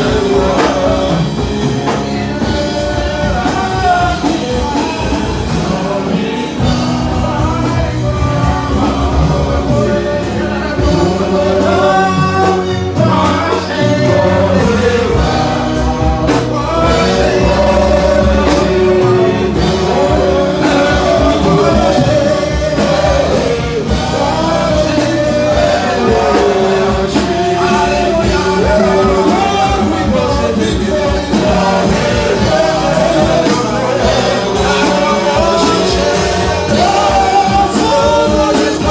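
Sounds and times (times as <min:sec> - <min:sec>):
upbeat song with singing: 0:00.0 - 0:38.9.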